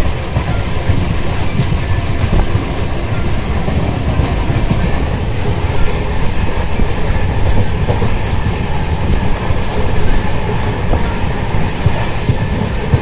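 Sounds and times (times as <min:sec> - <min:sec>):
train coaches rumbling: 0:00.0 - 0:13.0
wheels clattering over rail joints: 0:00.0 - 0:13.0.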